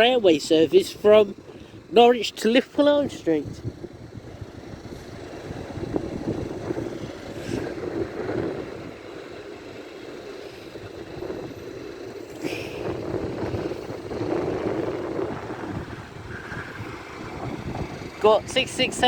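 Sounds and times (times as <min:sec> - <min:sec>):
train engine and wheels rumbling: 0:00.0 - 0:19.0.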